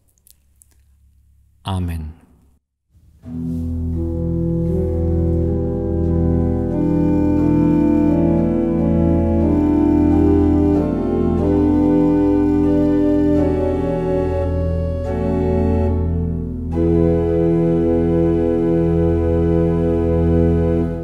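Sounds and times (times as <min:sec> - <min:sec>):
pipe organ playing chords: 0:03.2 - 0:21.0.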